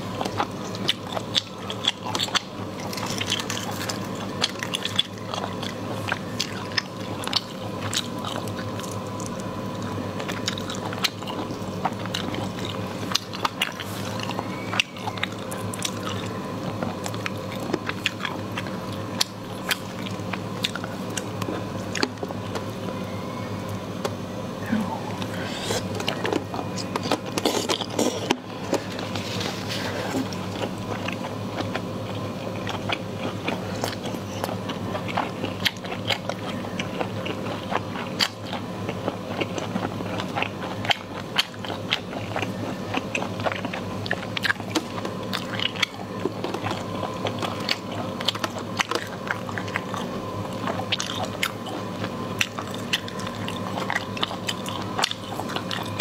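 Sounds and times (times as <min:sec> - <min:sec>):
biting and chewing: 0:00.0 - 0:56.0
steady low hum: 0:00.0 - 0:56.0.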